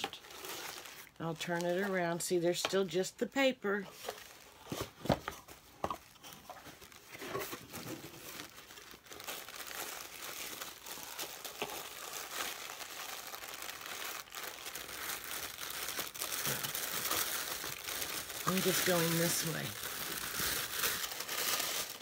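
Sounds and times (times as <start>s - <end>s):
tissue paper crinkling: 0.0s - 2.2s, 3.9s - 22.0s.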